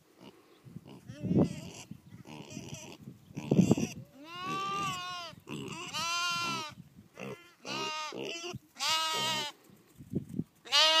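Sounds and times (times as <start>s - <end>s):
lambs bleating: 0.9s - 9.6s, 10.6s - 11.0s.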